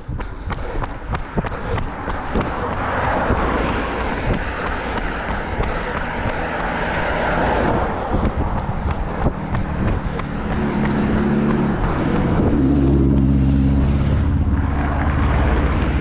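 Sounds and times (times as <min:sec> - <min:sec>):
runner's footsteps: 0:00.0 - 0:13.5
motor vehicle passing: 0:00.0 - 0:16.0.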